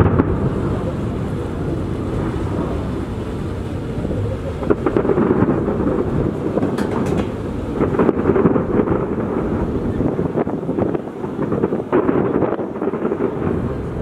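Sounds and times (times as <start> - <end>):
fireworks bursts rumbling: 0.0 - 14.0
fireworks crackling: 0.0 - 14.0.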